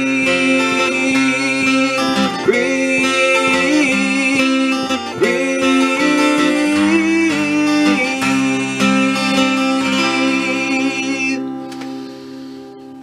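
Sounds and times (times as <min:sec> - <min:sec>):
man singing: 0:00.0 - 0:11.6
acoustic guitar strumming: 0:00.0 - 0:13.0.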